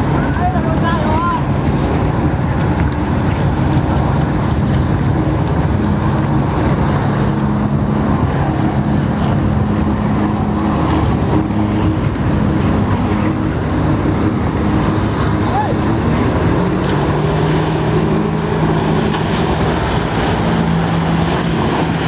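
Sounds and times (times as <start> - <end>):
personal watercraft engine running: 0.0 - 22.0
rushing water: 0.0 - 22.0
wind noise on microphone: 0.0 - 22.0.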